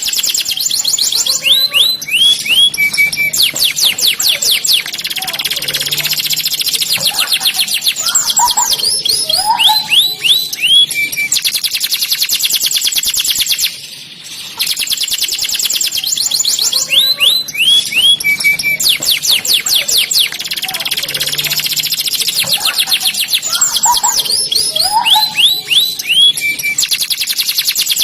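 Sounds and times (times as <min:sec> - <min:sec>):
swooping whistles: 0:00.0 - 0:05.1, 0:06.1 - 0:13.8, 0:14.6 - 0:20.3, 0:21.4 - 0:28.0
canary singing trills: 0:00.0 - 0:28.0.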